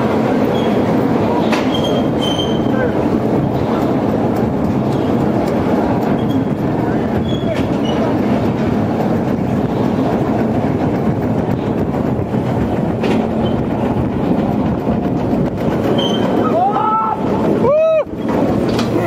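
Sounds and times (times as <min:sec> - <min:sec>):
roller coaster rumbling and clattering: 0:00.0 - 0:19.0.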